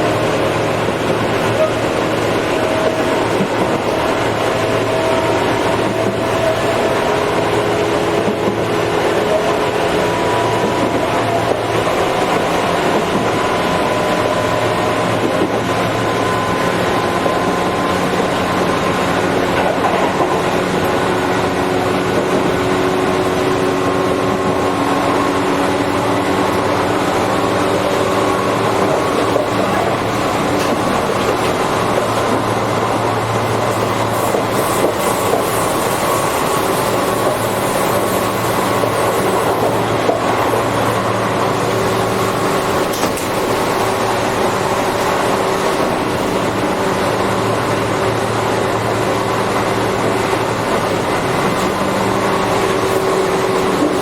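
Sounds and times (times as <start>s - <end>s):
train running gear hum: 0.0s - 54.0s
train wheels rumbling on rail: 0.0s - 54.0s.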